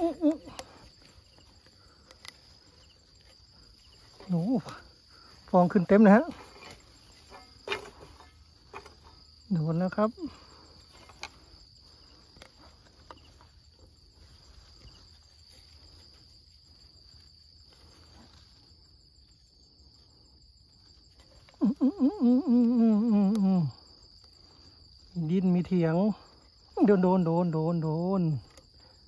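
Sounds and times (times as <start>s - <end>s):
insects buzzing: 0.0s - 29.0s.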